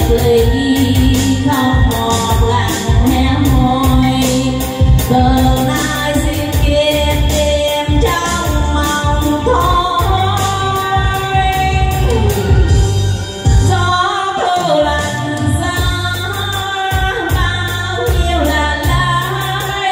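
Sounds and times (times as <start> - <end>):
backing track with bass and beat: 0.0 - 19.9
woman singing into a microphone: 0.0 - 19.9.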